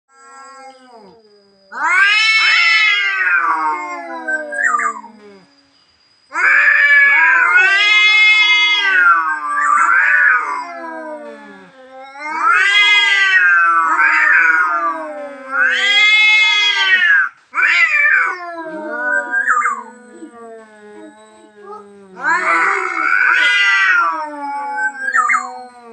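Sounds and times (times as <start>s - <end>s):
tomcat yowling: 0.2s - 5.6s, 6.3s - 25.9s.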